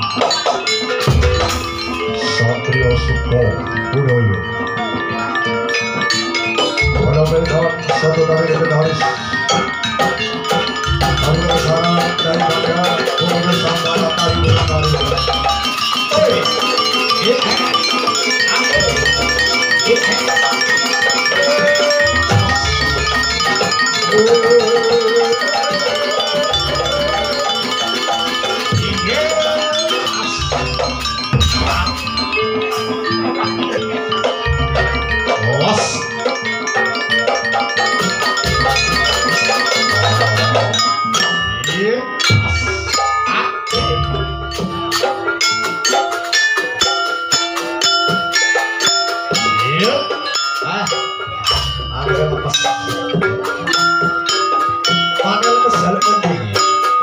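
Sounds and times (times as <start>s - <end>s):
percussion: 0.0s - 57.0s
plucked and struck notes: 0.0s - 57.0s
wavering melody: 0.0s - 57.0s.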